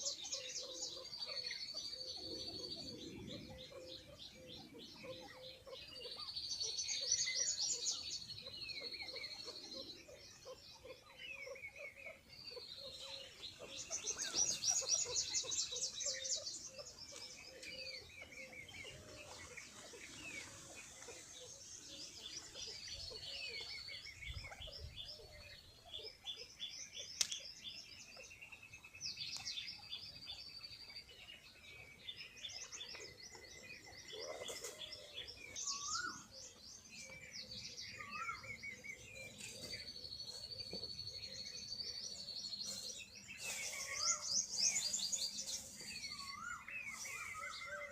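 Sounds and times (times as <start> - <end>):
small birds chirping and trilling: 0.0 - 47.9.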